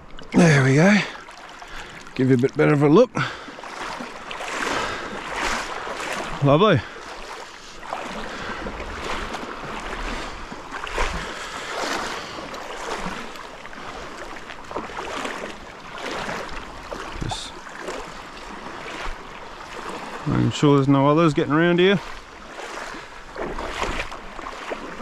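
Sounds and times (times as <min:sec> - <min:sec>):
creek water sloshing and splashing: 0:00.0 - 0:25.0.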